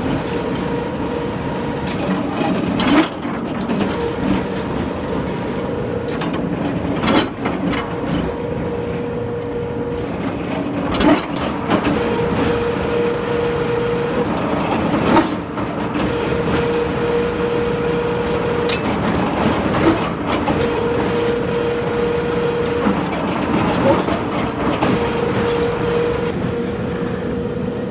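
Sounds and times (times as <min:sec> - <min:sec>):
piling machine whine: 0:00.0 - 0:27.9.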